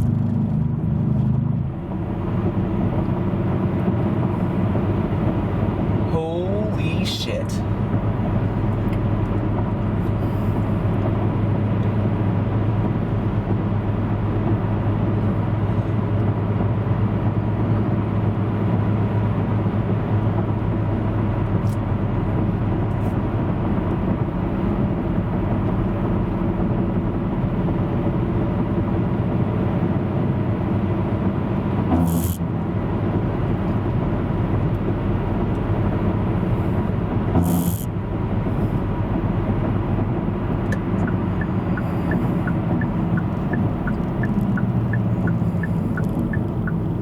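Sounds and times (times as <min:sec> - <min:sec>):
car engine hum: 0:00.0 - 0:47.0
road noise: 0:00.0 - 0:47.0.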